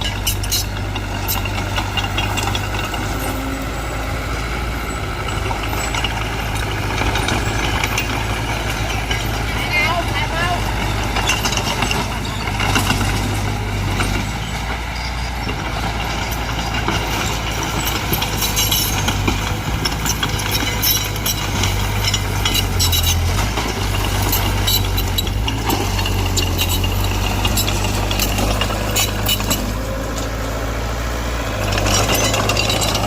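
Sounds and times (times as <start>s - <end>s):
rapid metallic clicking and rattling: 0.0s - 3.6s, 5.0s - 30.5s, 31.4s - 33.0s
diesel engine running: 0.0s - 33.0s.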